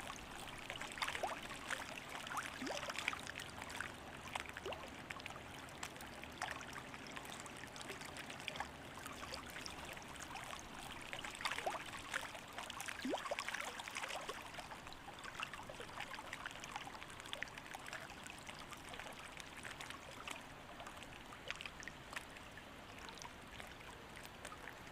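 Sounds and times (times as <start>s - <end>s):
water drips and bubbling plops: 0.0s - 24.9s
water trickling and splashing: 0.0s - 24.9s.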